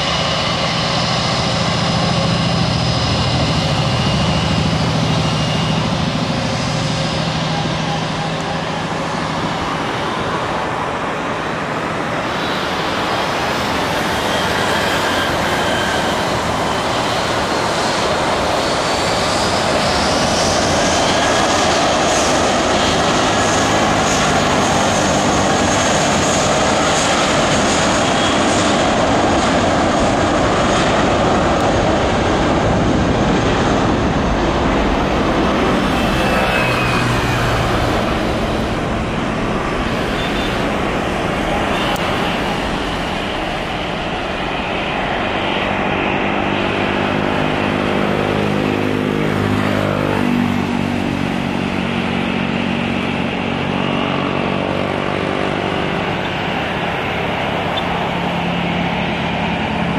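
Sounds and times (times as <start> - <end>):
high engine whine: 0.0 - 59.9
jet engines spooling up: 0.0 - 59.9.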